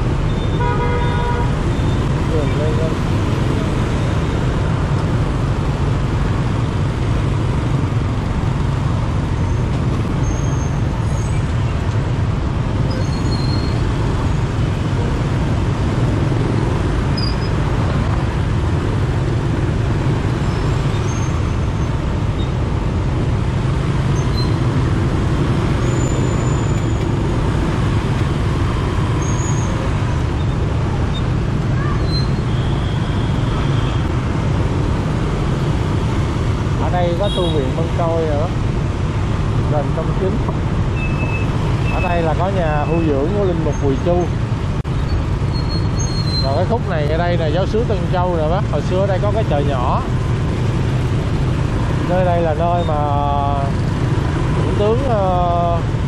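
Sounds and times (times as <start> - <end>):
city traffic rumble: 0.0 - 56.0.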